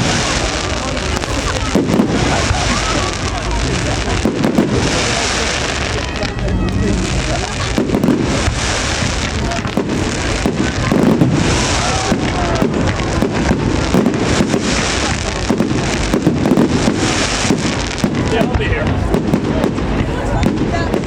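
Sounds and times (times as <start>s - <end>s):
fireworks bangs and crackles: 0.0s - 21.0s
spectators' voices: 0.0s - 21.0s.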